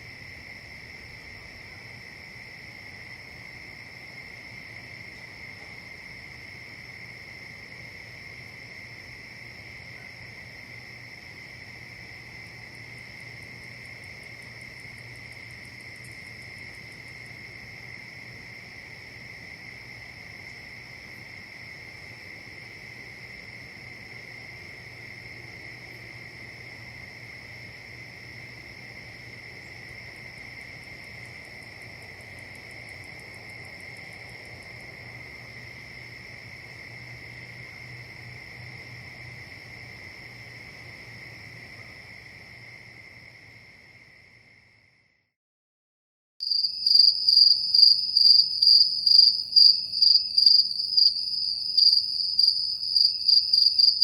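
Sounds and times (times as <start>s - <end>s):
crickets trilling: 0.0s - 45.2s, 46.4s - 54.0s.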